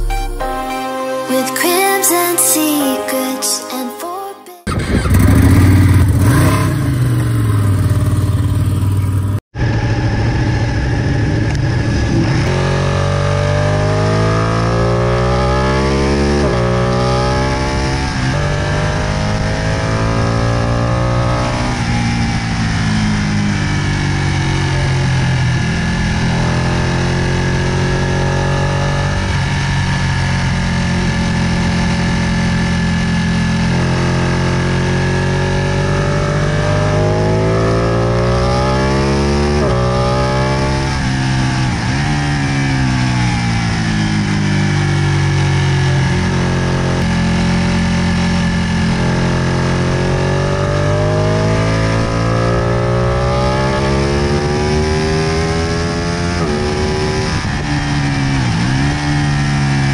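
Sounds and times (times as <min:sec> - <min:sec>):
motorcycle engine accelerating: 0:04.7 - 0:59.9.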